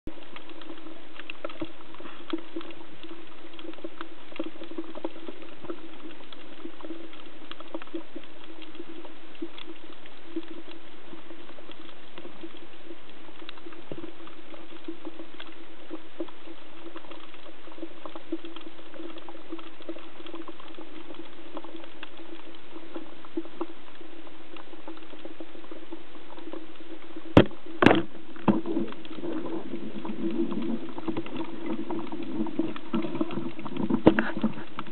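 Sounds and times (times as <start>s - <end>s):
crackle of tiny ticks: 0.1s - 34.9s
low underwater hum: 0.1s - 34.9s.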